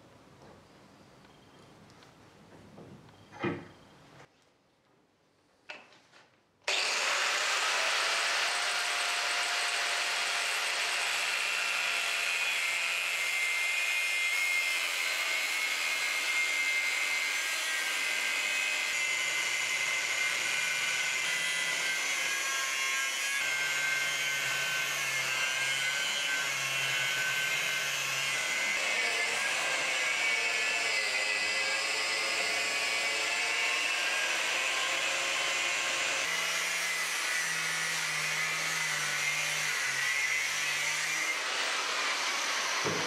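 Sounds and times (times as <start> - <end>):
angle grinder cutting steel: 6.7 - 43.0.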